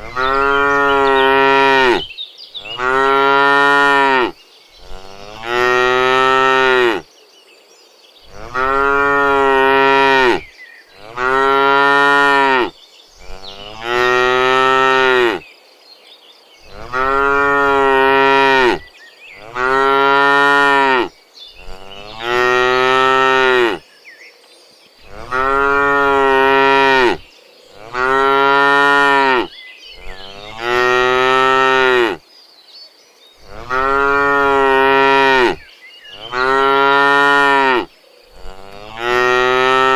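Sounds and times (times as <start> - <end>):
cows mooing: 0.0 - 7.0, 8.3 - 10.4, 11.0 - 15.4, 16.7 - 18.8, 19.4 - 23.8, 25.1 - 27.2, 27.8 - 32.2, 33.4 - 35.6, 36.2 - 39.9.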